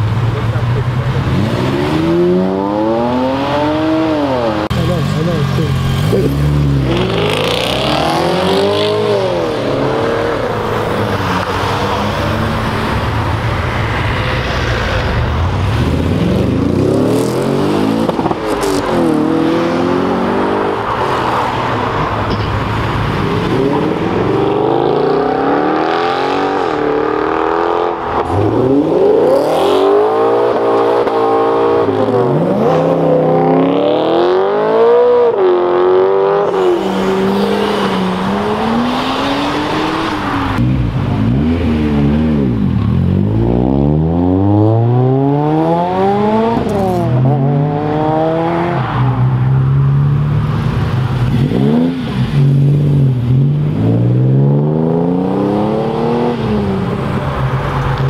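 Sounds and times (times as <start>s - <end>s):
car engines accelerating hard: 0.0s - 58.0s
road and tyre noise: 0.0s - 58.0s.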